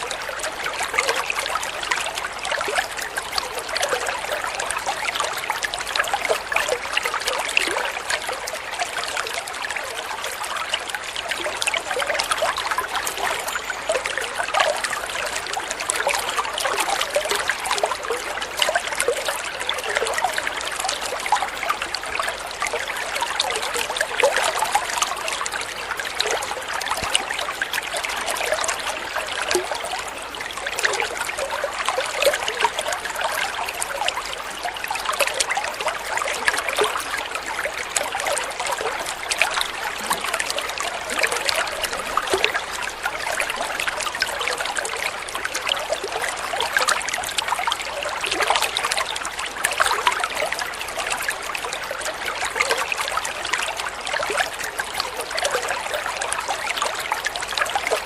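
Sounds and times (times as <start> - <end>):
water flowing and trickling: 0.0 - 58.0.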